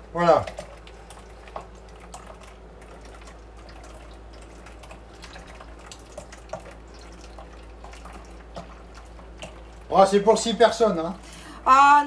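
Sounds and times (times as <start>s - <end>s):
milk pouring into batter: 0.0s - 11.3s
small splashes: 0.0s - 11.3s.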